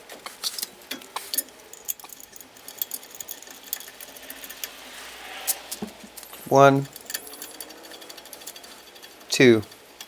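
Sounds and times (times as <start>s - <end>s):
light metallic clicks and clinks: 0.2s - 4.9s, 6.2s - 10.0s.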